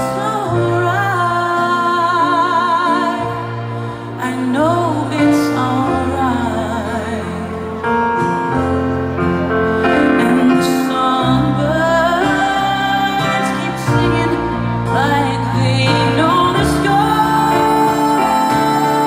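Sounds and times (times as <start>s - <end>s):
woman singing with vibrato: 0.0s - 7.8s, 9.8s - 19.0s.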